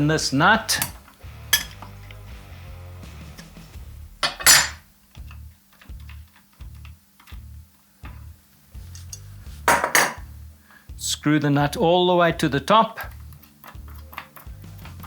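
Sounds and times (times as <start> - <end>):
background music with low beat: 0.0 - 15.0.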